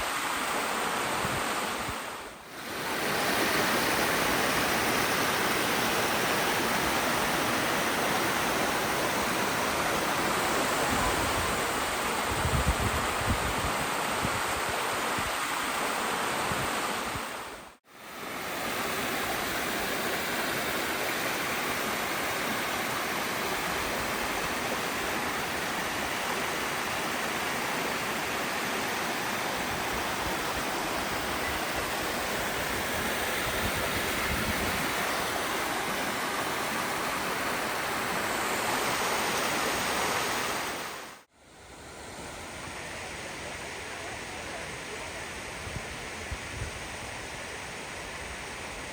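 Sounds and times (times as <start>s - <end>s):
waterfall rushing: 0.0s - 41.3s.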